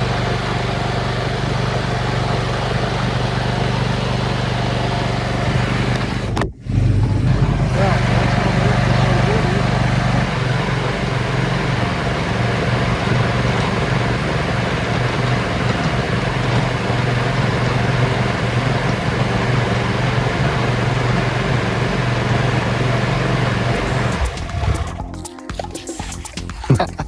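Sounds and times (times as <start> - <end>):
farm vehicle engine running: 0.0 - 27.0.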